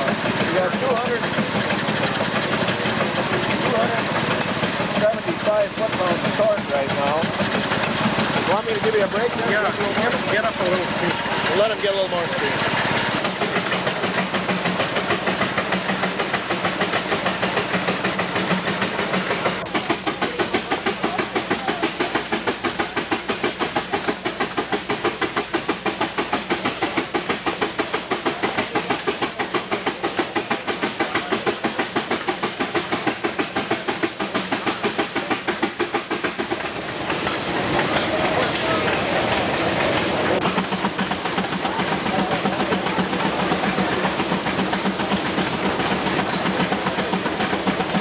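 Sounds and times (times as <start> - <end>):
steam engine exhaust chuffing: 0.0 - 48.0
steam hiss: 0.0 - 48.0.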